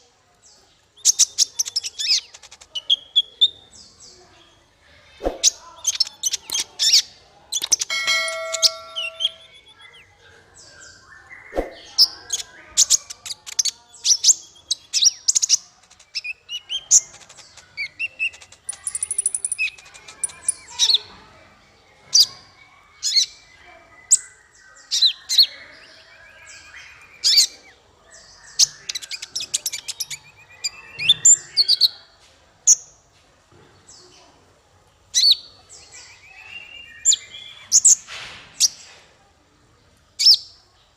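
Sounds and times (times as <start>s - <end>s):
songbird chirps and trills: 0.0s - 39.0s.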